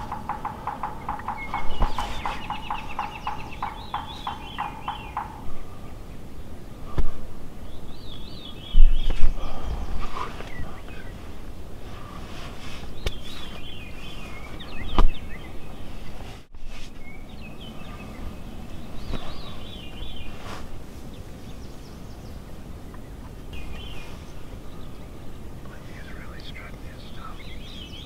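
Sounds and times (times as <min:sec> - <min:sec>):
low rumble of wind: 0:00.0 - 0:28.0
songbirds warbling: 0:00.0 - 0:28.0.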